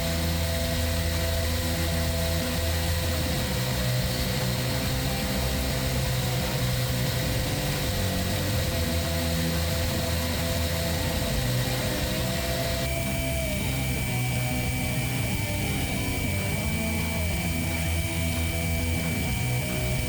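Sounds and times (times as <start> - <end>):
belt grinder whining: 0.0 - 20.0.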